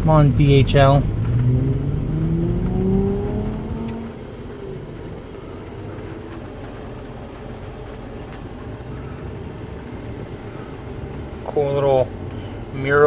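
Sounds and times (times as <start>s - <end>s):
road and cabin noise: 0.0s - 13.0s
truck engine accelerating: 0.0s - 13.0s.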